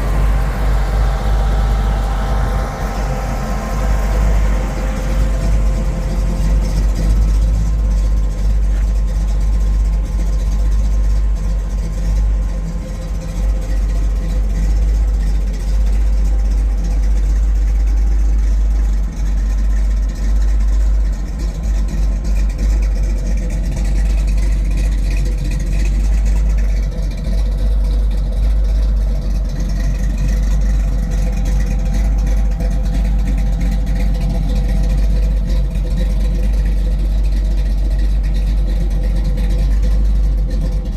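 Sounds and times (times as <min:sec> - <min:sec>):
car engine rumbling: 0:00.0 - 0:40.9.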